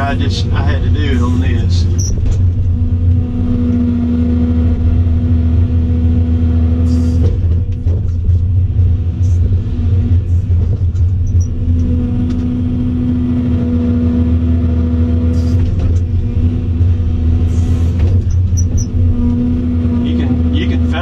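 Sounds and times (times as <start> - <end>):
excavator diesel engine running: 0.0 - 21.0
high steady whine: 0.0 - 21.0.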